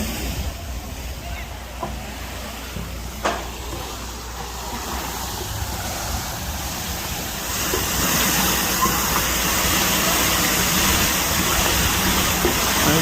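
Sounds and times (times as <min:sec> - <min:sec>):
water rushing and splashing: 0:00.0 - 0:13.0.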